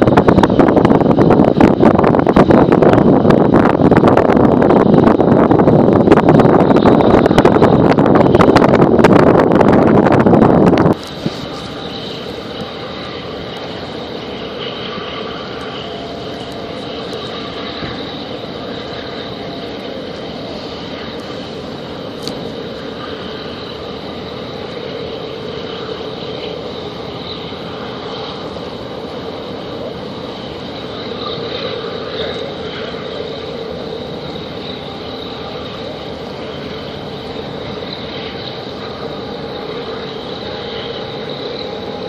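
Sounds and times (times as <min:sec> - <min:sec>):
engine drone: 0:00.0 - 0:42.0
wind buffeting microphone: 0:00.0 - 0:42.0.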